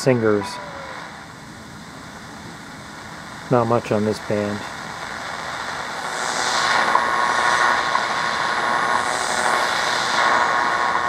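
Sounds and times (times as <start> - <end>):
steady radio tone: 0.0 - 1.3, 3.0 - 11.0
radio static and hiss: 0.0 - 11.0.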